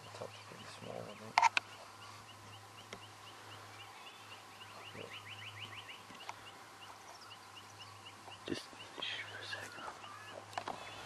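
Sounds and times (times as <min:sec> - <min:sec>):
low steady hum: 0:00.0 - 0:11.0
small bird chirping and trilling: 0:00.0 - 0:11.0.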